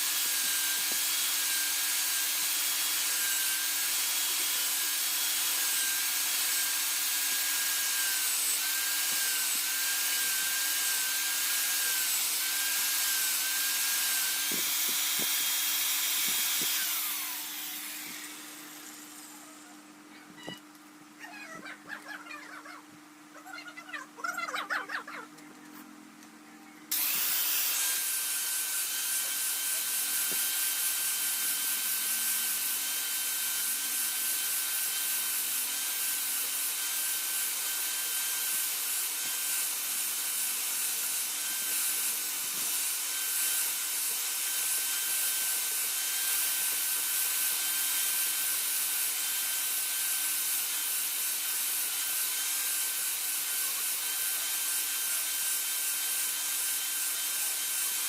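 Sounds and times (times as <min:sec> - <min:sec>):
blade grinding: 0:00.0 - 0:19.7, 0:26.9 - 0:58.0.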